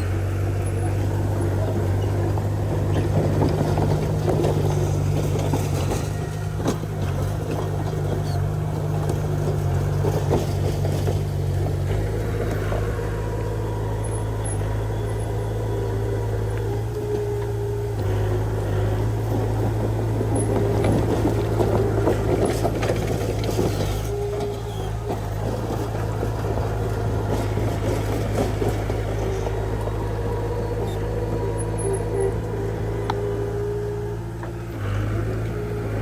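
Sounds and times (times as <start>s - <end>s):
heavy diesel engine running: 0.0s - 36.0s
machinery rattling: 0.0s - 36.0s.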